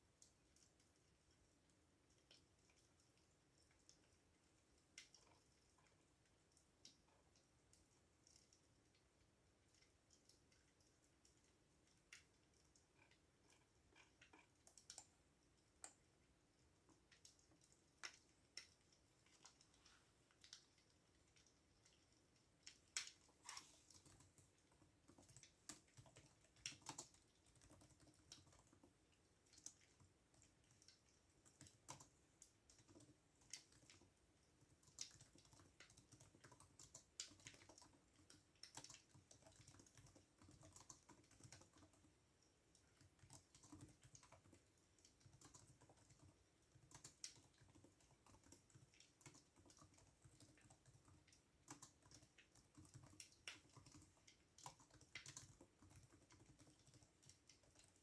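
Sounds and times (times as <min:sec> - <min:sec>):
faint keyboard typing: 0:00.0 - 0:58.0.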